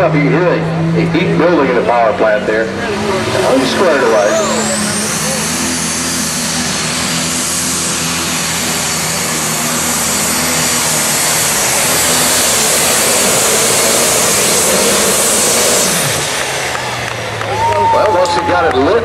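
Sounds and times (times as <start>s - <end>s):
tractor engine and turbo whine: 0.0s - 19.0s.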